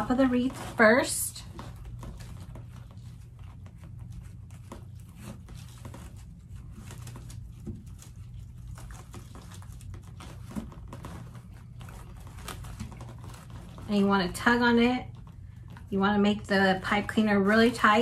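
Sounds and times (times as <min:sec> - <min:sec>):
plastic mesh and ribbon rustling: 0:00.0 - 0:18.0.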